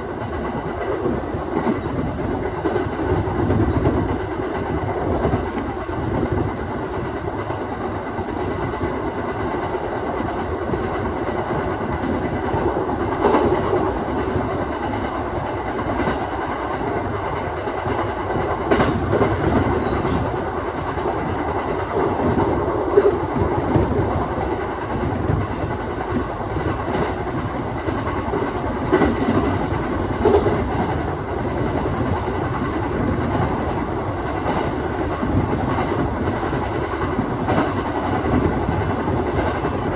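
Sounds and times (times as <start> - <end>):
train wheels rumbling on rail: 0.0 - 39.9
clacks over rail joints: 0.1 - 39.9.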